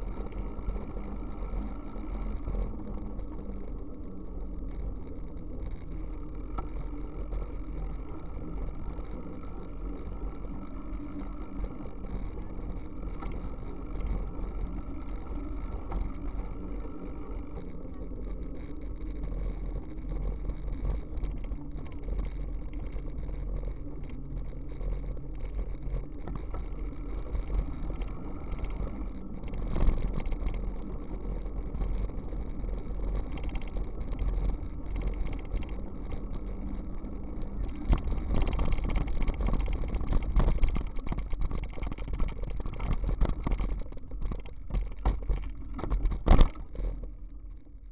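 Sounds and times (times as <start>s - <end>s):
wind and road rumble: 0.0s - 47.9s.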